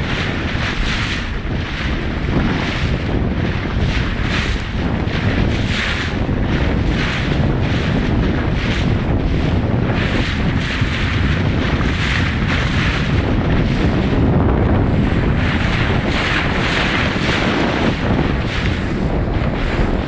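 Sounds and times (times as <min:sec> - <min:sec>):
water sloshing against boat: 0:00.0 - 0:20.0
wind buffeting microphone: 0:00.0 - 0:20.0.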